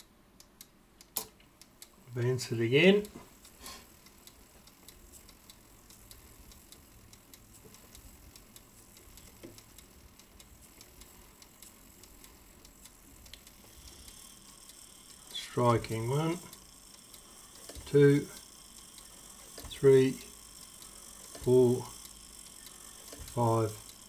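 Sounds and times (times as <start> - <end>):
clock ticking faintly: 0.0 - 24.0.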